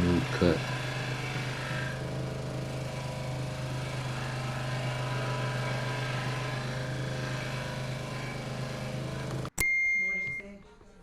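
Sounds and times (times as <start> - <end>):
scroll saw cutting wood: 0.0 - 9.5.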